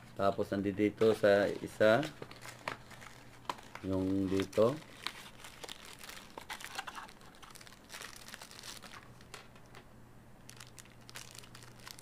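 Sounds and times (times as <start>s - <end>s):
plastic packaging crinkling: 1.1s - 9.8s, 10.5s - 12.0s.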